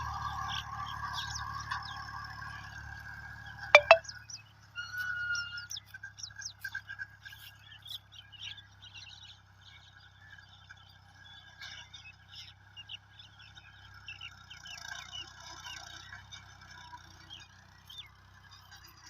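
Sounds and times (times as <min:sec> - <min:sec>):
low engine hum: 0:00.0 - 0:19.0
small birds chirping: 0:00.0 - 0:19.0.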